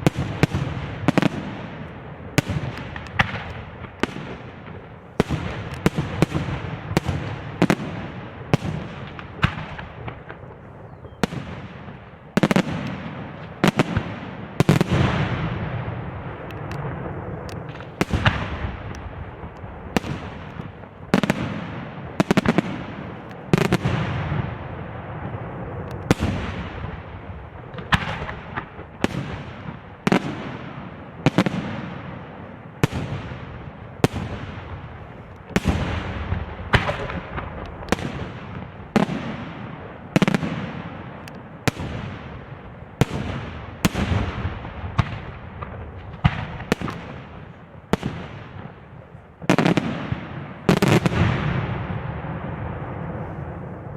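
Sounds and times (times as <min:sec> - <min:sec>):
fireworks bursting with bangs: 0:00.0 - 0:53.9.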